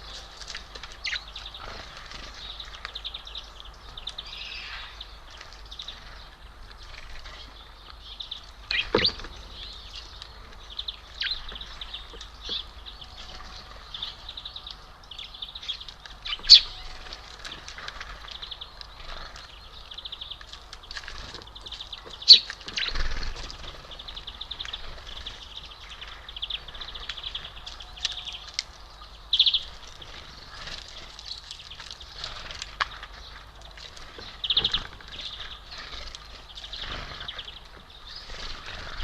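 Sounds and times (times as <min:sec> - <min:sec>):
songbirds twittering: 0:00.0 - 0:39.0.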